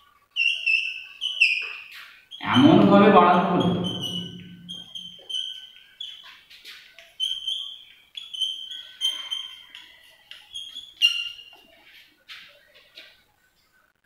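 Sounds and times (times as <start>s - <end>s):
chalk squeaking on blackboard: 0.3s - 13.3s.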